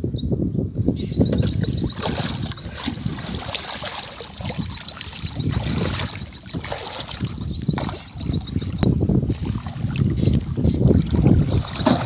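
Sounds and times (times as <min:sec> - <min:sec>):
water splashing from wading: 0:01.3 - 0:12.0.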